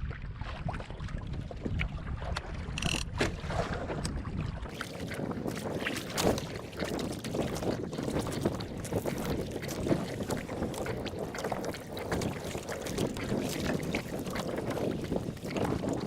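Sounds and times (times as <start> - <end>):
water splashing around boat: 0.0 - 16.0
wind buffeting microphone: 0.0 - 16.0.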